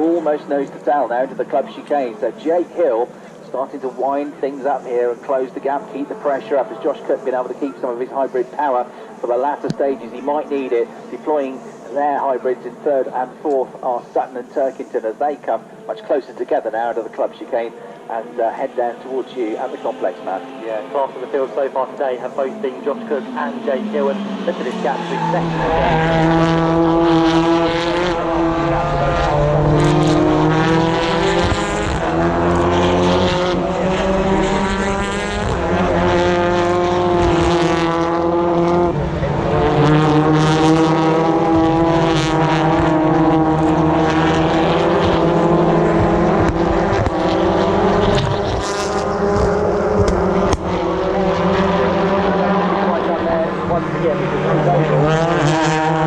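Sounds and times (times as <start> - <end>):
race cars passing at speed: 0.0 - 56.0.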